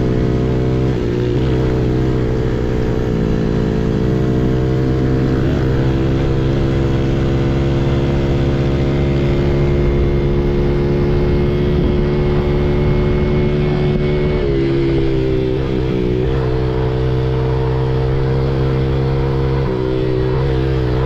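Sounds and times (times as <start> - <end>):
motorbike engine running: 0.0 - 21.0.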